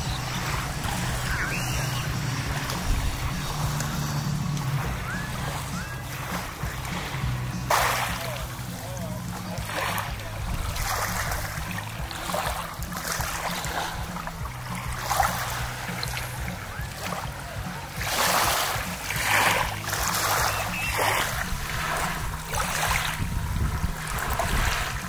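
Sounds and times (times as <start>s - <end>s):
motorboat engine hum: 0.0s - 25.0s
water slapping against hull: 0.0s - 25.0s.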